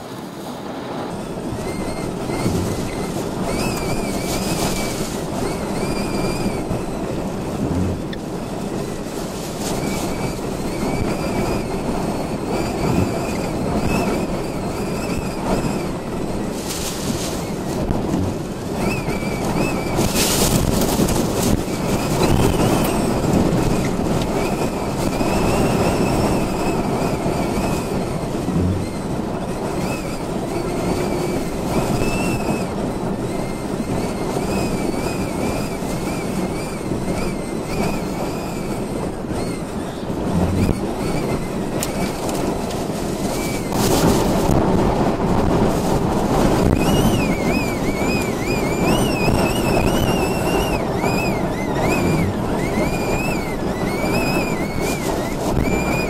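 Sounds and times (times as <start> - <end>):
strong wind with whistle: 0.0 - 56.0.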